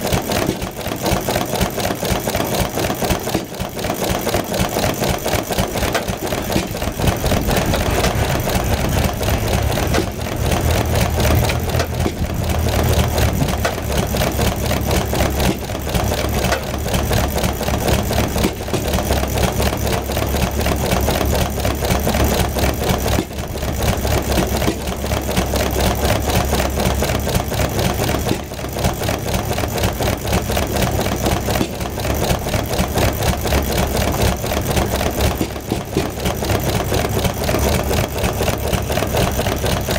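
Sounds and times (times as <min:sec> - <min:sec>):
stationary engine ticking: 0:00.0 - 0:39.9.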